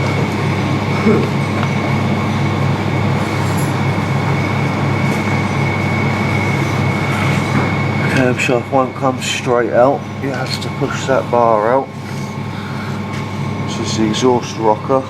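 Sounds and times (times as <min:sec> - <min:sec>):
machine whine and hum: 0:00.0 - 0:15.0.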